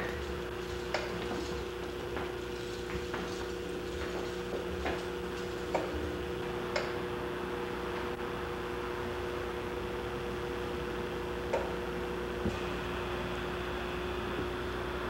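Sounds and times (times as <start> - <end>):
low electronic hum: 0.0 - 15.0.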